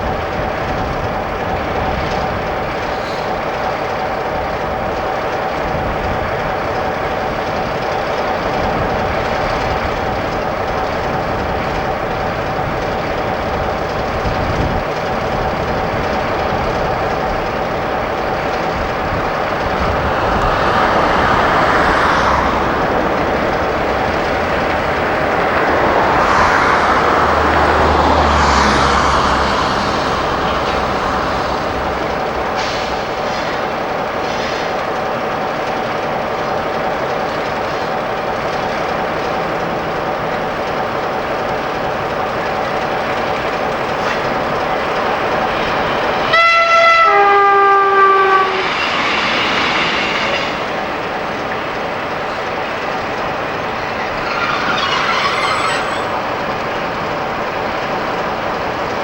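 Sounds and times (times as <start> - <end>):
diesel train running: 0.0 - 59.0.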